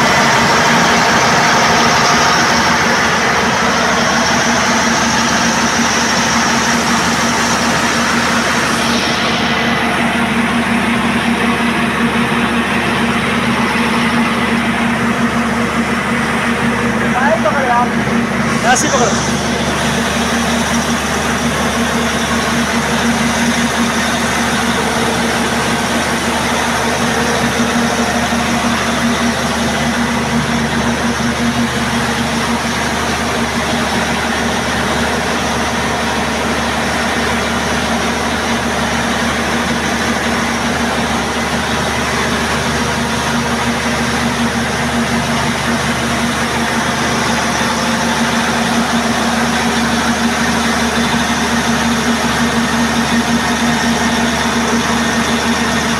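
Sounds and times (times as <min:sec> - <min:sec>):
diesel generator engine running: 0:00.0 - 0:55.9.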